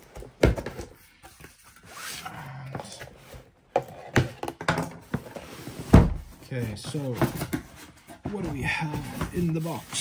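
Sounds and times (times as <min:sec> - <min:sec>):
cardboard rustling and scraping: 0:00.0 - 0:10.0.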